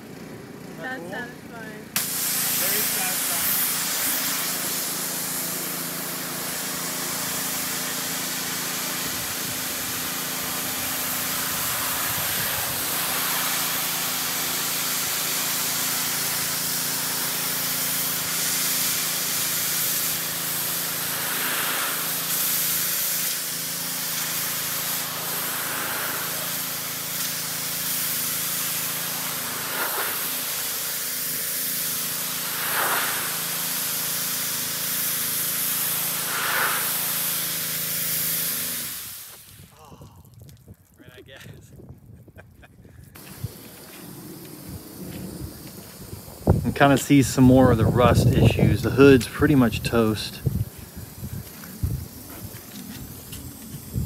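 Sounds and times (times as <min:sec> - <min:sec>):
steady hum: 0:00.0 - 0:34.7, 0:35.8 - 0:37.8, 0:43.1 - 0:54.0
pressure washer spraying water: 0:00.0 - 0:39.7, 0:43.1 - 0:54.0.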